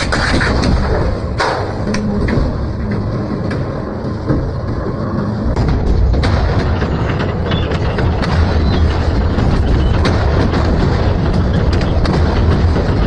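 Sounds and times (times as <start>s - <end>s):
metal cracking and clanking: 0.0s - 4.6s, 5.5s - 13.0s
metal shredder rumbling: 0.0s - 13.0s.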